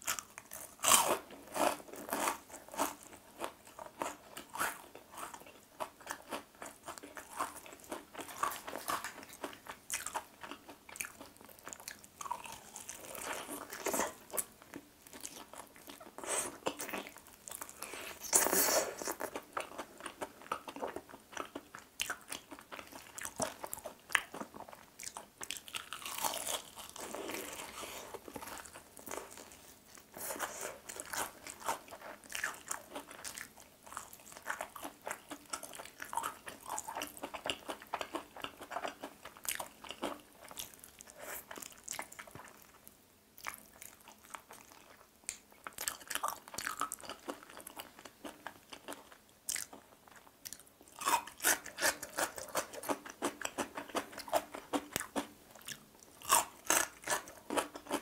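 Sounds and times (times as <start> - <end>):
crunching fried chicken: 0.0 - 58.0.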